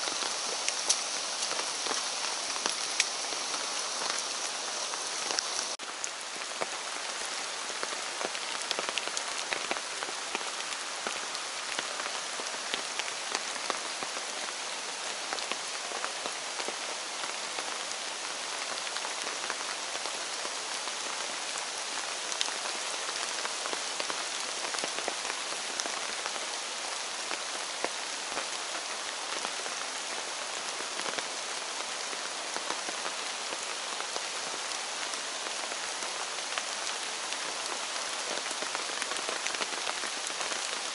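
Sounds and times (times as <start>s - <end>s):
rain on leaves: 0.0s - 40.9s.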